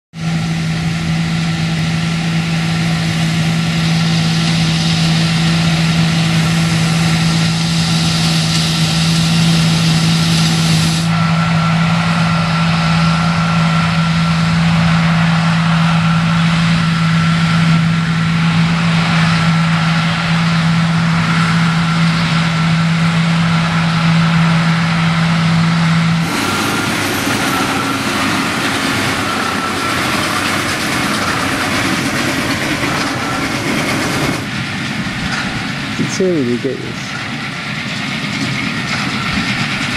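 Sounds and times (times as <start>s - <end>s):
combine harvester machinery hum: 0.2s - 39.9s
tractor pulling baler: 0.2s - 39.9s
threshing noise: 3.0s - 39.9s.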